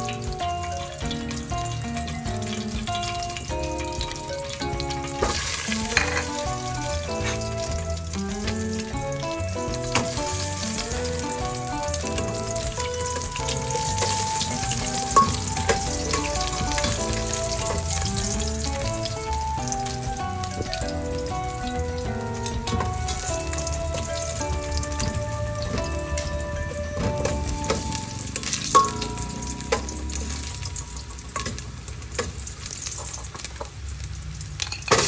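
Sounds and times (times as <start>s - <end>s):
background music with melody: 0.0s - 32.0s
ginger sizzling in hot oil: 0.0s - 35.0s.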